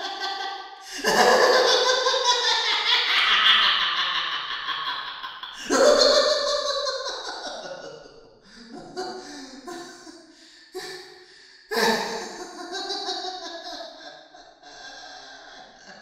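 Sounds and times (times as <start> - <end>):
creepy clown laughter with echo: 0.0 - 11.0, 11.7 - 16.0.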